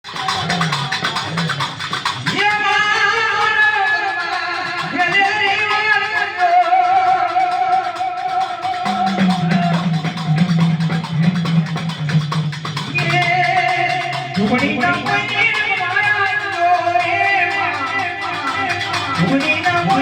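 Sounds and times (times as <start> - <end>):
steady beat: 0.0 - 20.0.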